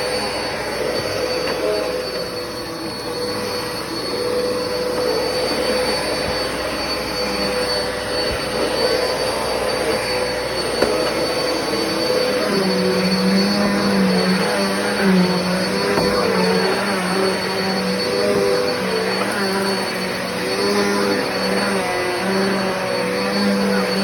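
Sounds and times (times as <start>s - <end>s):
vacuum cleaner whining: 0.0s - 24.0s.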